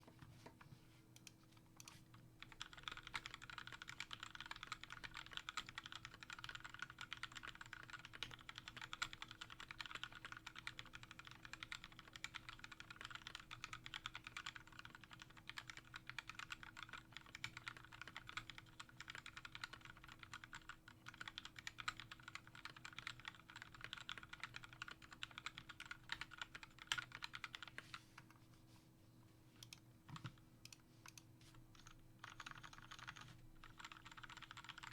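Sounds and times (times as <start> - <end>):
faint steady hum: 0.0 - 34.9
mechanical keyboard typing: 1.2 - 27.9, 29.6 - 34.9.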